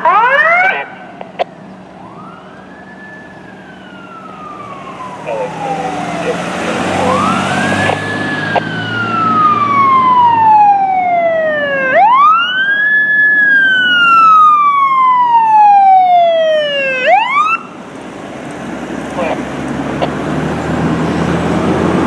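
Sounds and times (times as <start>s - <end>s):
fire engine siren wailing: 0.0s - 22.0s.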